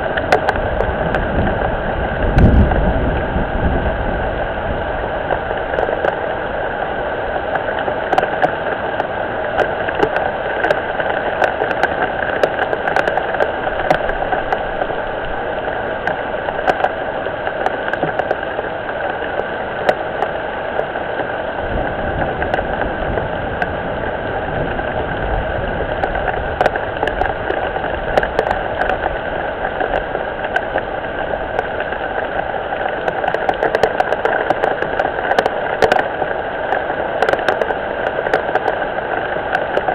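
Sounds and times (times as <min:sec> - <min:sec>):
rain drops clicking: 0:00.0 - 0:39.9.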